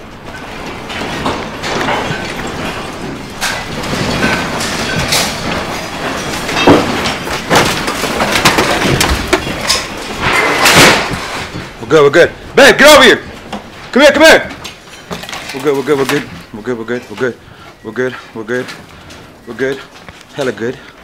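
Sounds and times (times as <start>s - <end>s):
building rumbling and rattling: 0.0s - 21.0s
knocks and clatters: 0.0s - 21.0s.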